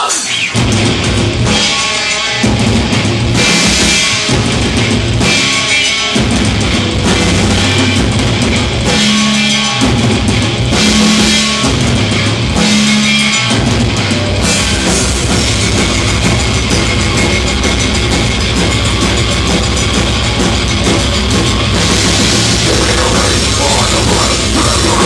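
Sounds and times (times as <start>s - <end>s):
heavy rock band playing: 0.0s - 25.0s.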